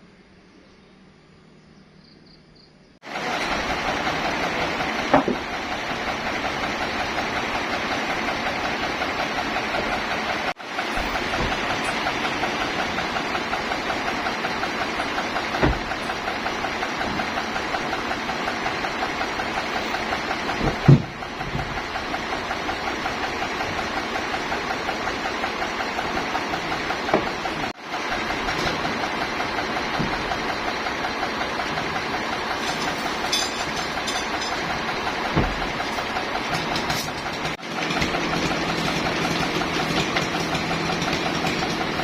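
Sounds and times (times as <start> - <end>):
sawmill engine pulsing: 3.0 - 42.0.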